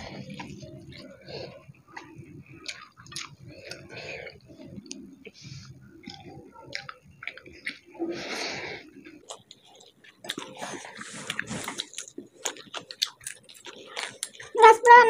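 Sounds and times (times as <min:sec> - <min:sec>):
chewing and mouth smacking: 0:00.0 - 0:08.0, 0:08.9 - 0:14.6.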